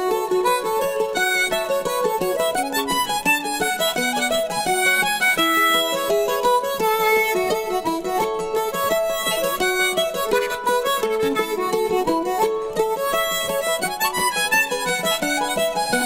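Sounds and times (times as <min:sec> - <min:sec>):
fast fiddle tune: 0:00.0 - 0:16.0.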